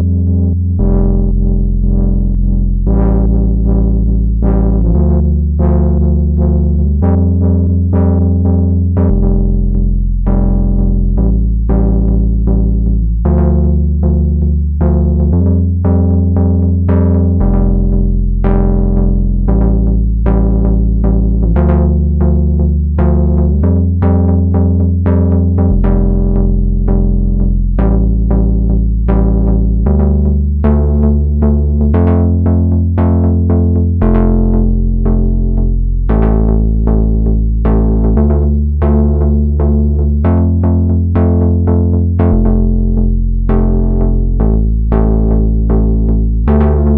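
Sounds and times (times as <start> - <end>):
deep synthesizer bass notes: 0.0 - 46.9
short plucky synth notes: 0.7 - 46.9.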